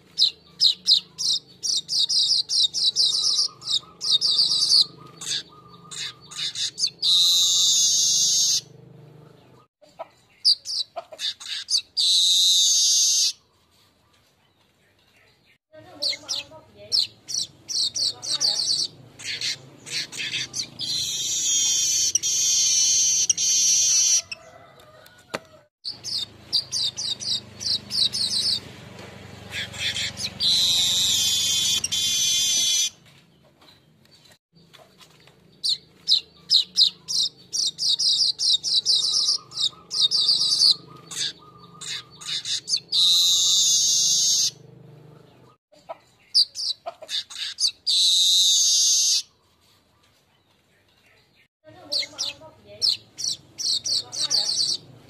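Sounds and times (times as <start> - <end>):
bird singing rapid chattering phrases: 0.0 - 24.4, 25.8 - 55.0.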